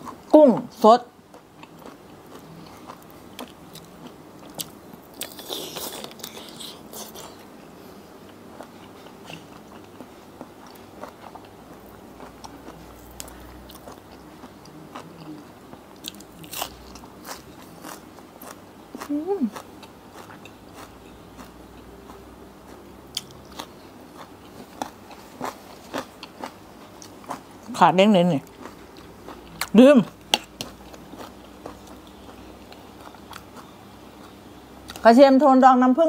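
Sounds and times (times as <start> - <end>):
person chewing raw shrimp: 1.3 - 7.5, 8.2 - 27.7, 28.4 - 35.0.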